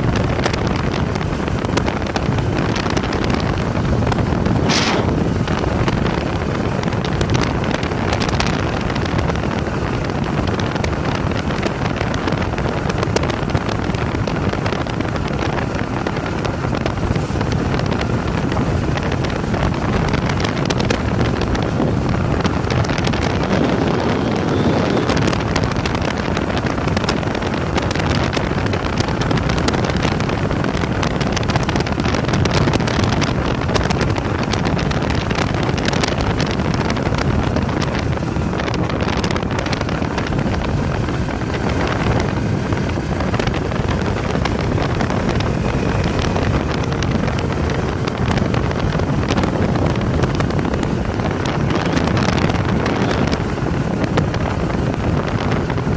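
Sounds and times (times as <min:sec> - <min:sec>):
motorcycle running and road noise: 0:00.0 - 0:55.9
wind rushing over microphone: 0:00.0 - 0:55.9.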